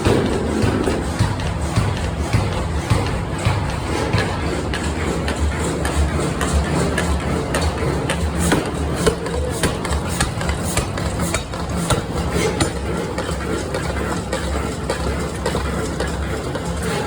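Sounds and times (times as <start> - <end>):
machinery humming: 0.0 - 17.0
sharp metallic knocks: 0.0 - 17.0.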